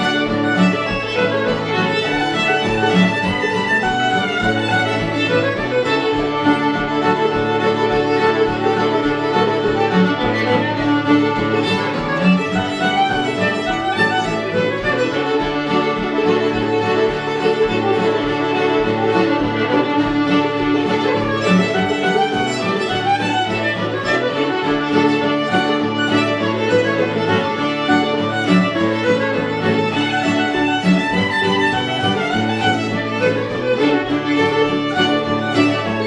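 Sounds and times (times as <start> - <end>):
fiddle melody: 0.0 - 36.0
strummed guitar: 0.0 - 36.0.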